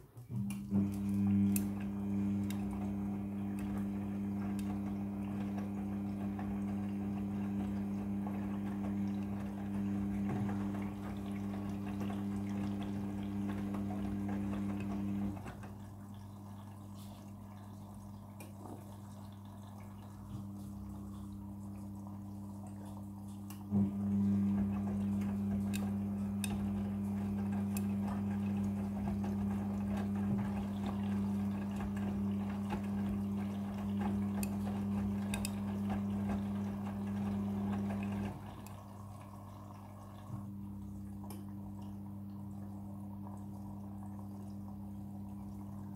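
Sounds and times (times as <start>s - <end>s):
washing machine hum: 0.0s - 45.9s
washing machine running water: 0.0s - 45.9s.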